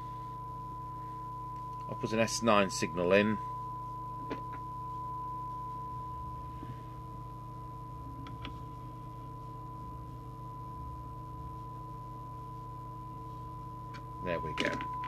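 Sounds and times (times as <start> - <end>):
low mains hum: 0.0 - 15.0
steady test tone: 0.0 - 15.0.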